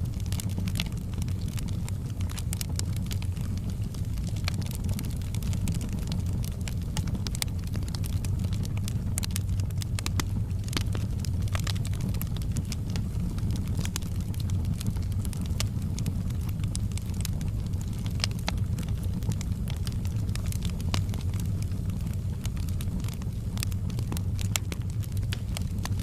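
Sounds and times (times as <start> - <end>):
low rumble of burning fire: 0.0 - 26.0
wood fire pops and snaps: 0.0 - 26.0.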